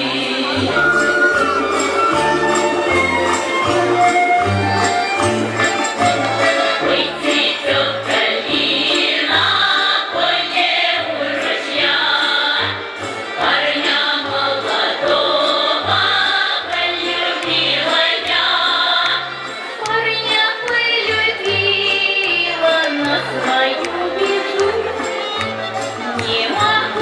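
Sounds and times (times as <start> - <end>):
women's choir singing folk song: 0.0 - 2.4, 6.4 - 27.0.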